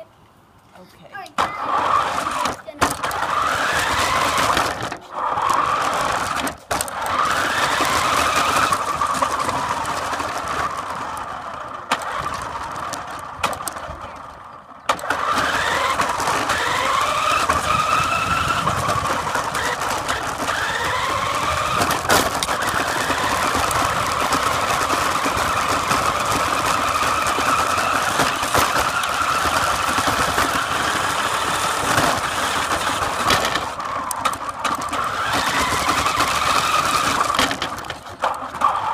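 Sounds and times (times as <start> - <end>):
toy car motor whining: 1.3 - 38.9.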